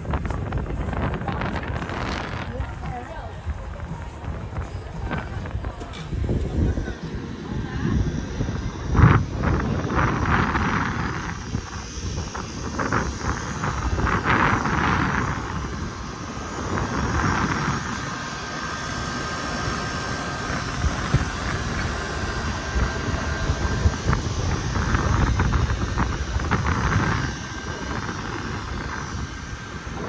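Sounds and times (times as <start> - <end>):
air conditioner units humming: 0.0 - 30.0
wind buffeting microphone: 0.0 - 30.0.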